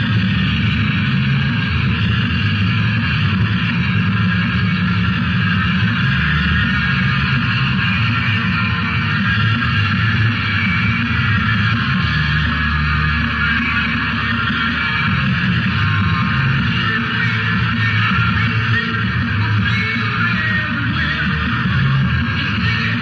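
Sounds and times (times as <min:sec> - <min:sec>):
rock music: 0:00.0 - 0:23.0.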